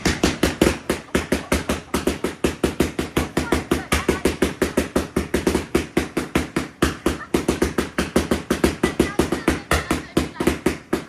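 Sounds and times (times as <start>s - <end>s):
rapid firework bangs: 0.0s - 11.0s.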